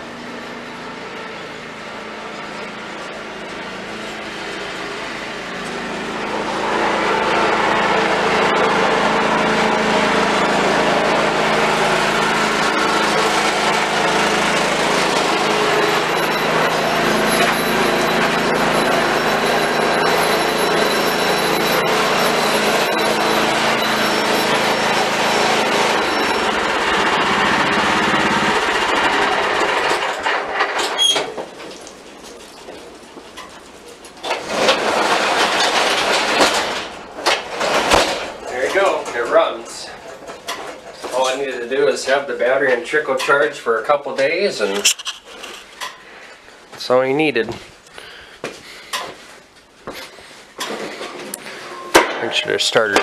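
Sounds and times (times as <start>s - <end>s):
riding lawn mower engine running: 0.0s - 46.7s.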